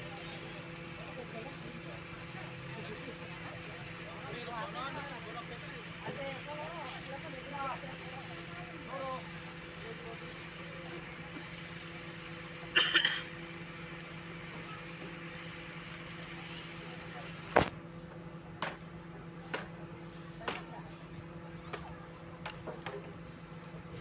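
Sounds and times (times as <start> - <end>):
heavy machinery engine humming: 0.0 - 24.0.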